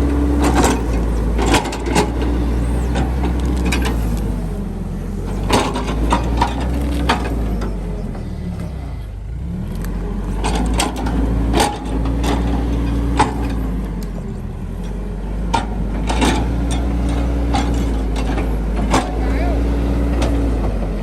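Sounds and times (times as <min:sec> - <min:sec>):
motor running: 0:00.0 - 0:18.9.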